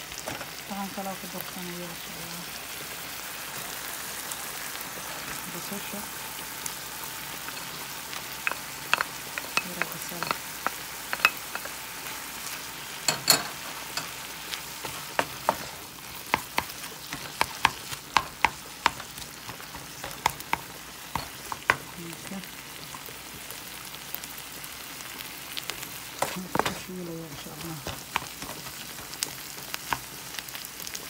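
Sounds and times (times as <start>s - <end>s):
meat sizzling in a frying pan: 0.0s - 31.0s.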